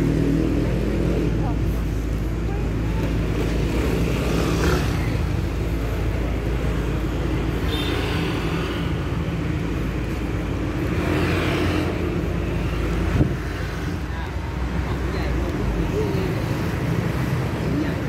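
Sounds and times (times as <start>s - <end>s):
street traffic engine hum: 0.0s - 18.0s.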